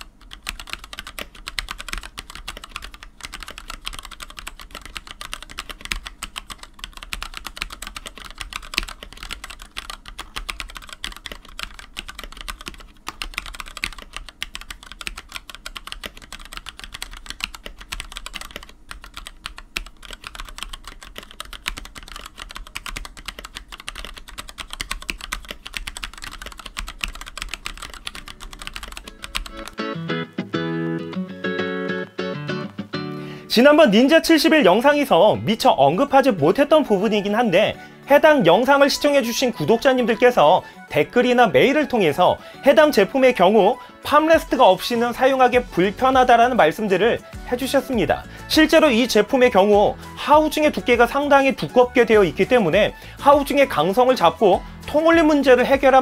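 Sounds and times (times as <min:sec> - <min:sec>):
mechanical keyboard typing: 0:00.0 - 0:29.8, 0:36.1 - 0:43.5, 0:44.1 - 0:56.0.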